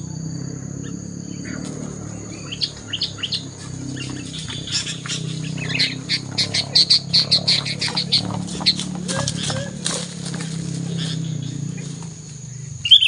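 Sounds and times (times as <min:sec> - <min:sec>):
steady low hum: 0:00.0 - 0:13.0
birds chirping sharply: 0:00.8 - 0:13.0.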